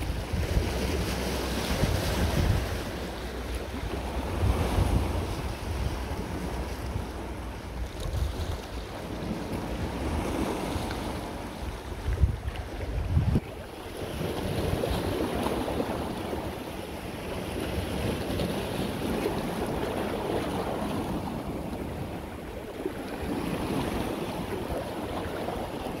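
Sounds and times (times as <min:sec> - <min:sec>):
sea waves washing on shore: 0:00.0 - 0:26.0
wind rumbling on microphone: 0:00.0 - 0:26.0.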